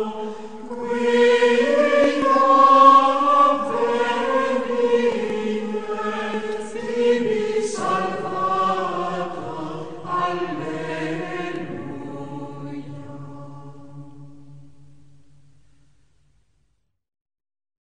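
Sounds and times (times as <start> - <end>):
choir chanting held chords: 0.0 - 15.5.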